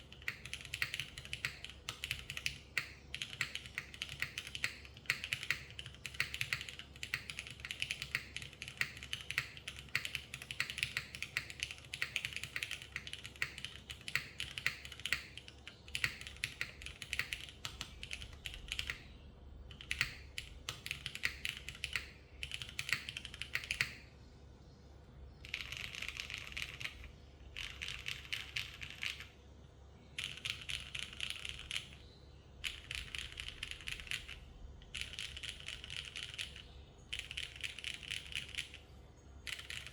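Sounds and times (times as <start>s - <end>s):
mechanical keyboard typing: 0.0s - 19.0s, 19.7s - 24.0s, 25.4s - 29.4s, 30.1s - 38.8s, 39.5s - 39.9s.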